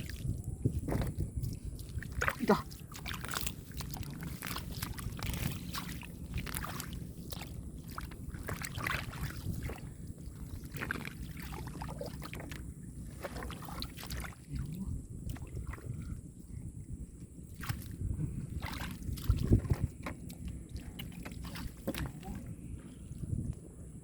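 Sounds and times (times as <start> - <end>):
hands sloshing in muddy water: 0.0 - 16.2, 17.4 - 23.4
steady low rumble: 0.0 - 24.0.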